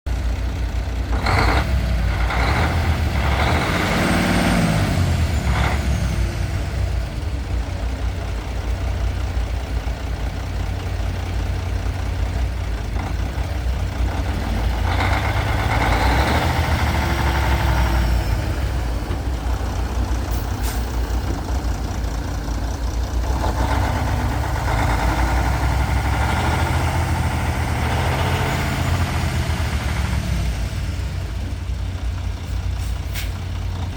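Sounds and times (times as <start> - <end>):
diesel truck engine running: 0.1 - 33.9.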